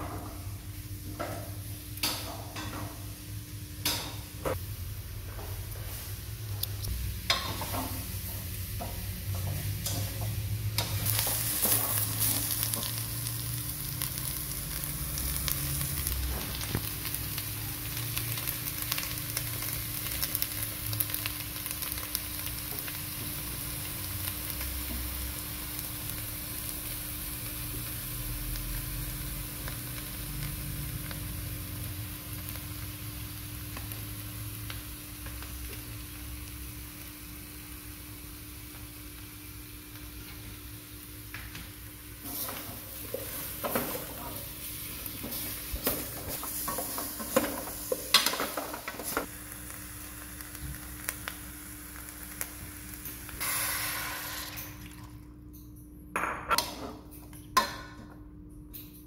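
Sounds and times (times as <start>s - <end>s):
food sizzling in a pot: 5.8s - 54.9s.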